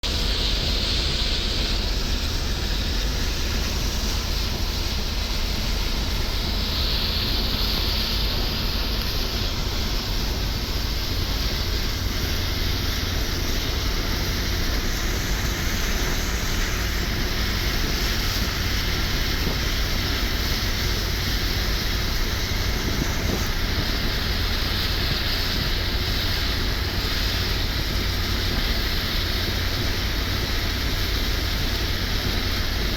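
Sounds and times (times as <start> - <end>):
car driving on wet road: 0.0 - 32.9.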